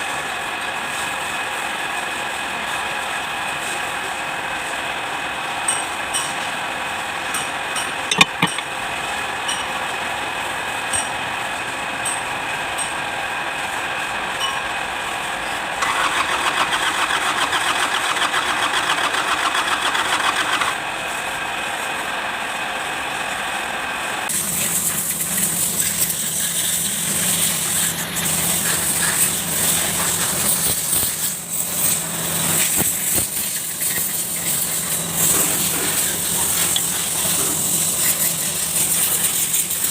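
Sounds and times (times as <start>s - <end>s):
diesel engine running: 3.6s - 39.9s.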